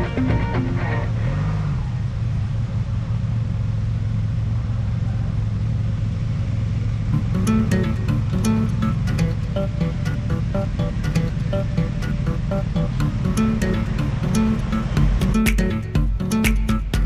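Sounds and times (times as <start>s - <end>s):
motorcycle engine hum: 0.0s - 16.2s
road and wind noise: 0.0s - 16.4s.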